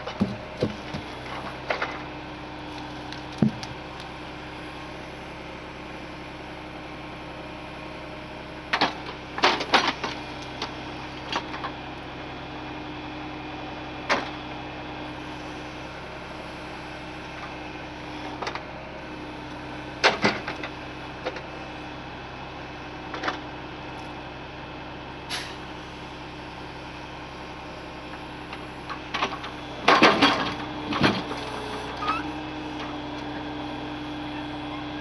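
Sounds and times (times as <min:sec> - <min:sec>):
truck engine humming: 0:00.0 - 0:35.0.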